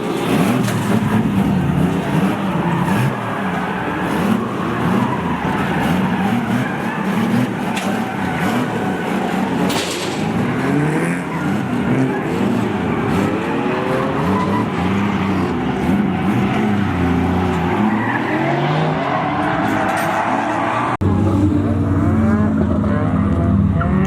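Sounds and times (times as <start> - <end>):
car engines revving: 0.0 - 24.0
tyres skidding: 0.0 - 24.0.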